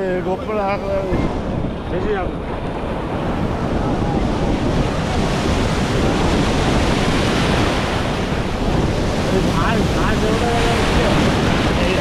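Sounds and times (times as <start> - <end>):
sea surf washing in: 0.0 - 12.0
wind buffeting microphone: 0.0 - 12.0.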